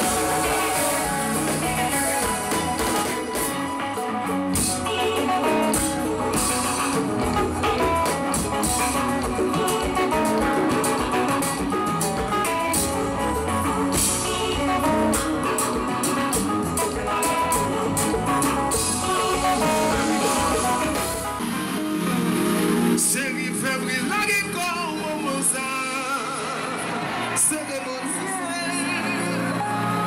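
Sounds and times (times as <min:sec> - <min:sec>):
band music with steady beat: 0:00.0 - 0:28.4
guitar: 0:00.0 - 0:30.0.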